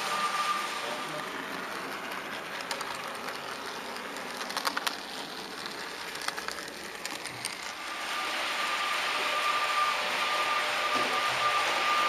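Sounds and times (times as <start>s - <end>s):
model train wheels on rails: 0.0s - 12.0s.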